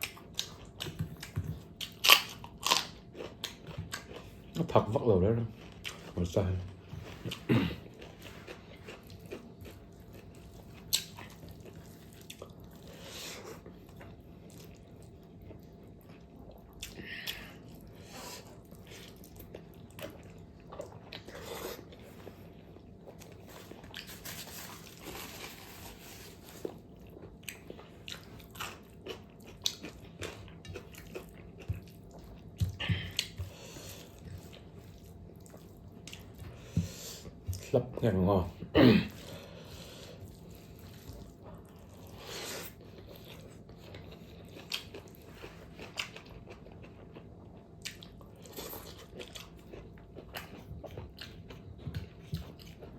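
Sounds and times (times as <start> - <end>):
person chewing fatty pork: 0.0 - 52.9.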